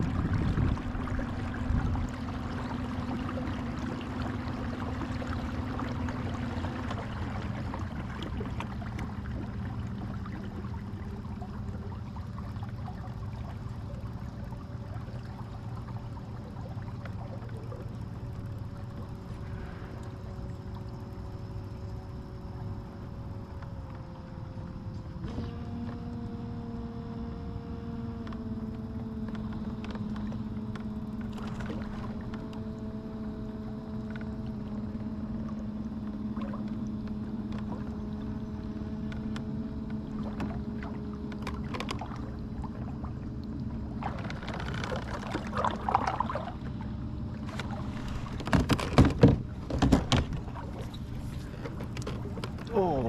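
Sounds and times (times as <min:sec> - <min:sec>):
knocks and clatter against kayak: 0:00.0 - 0:19.5, 0:28.1 - 0:32.7, 0:33.7 - 0:53.0
motor humming: 0:00.0 - 0:53.0.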